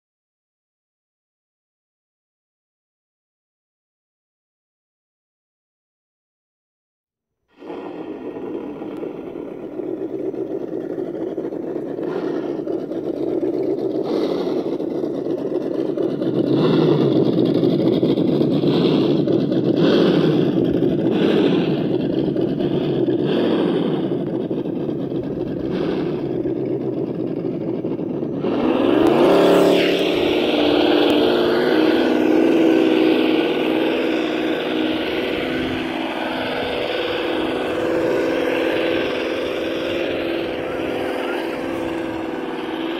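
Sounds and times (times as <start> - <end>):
toy truck engine revving: 7.6 - 42.9.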